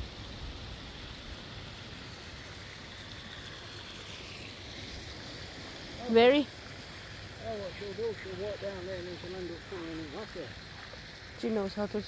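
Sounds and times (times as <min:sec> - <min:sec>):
pond fountain splashing: 0:00.0 - 0:12.0.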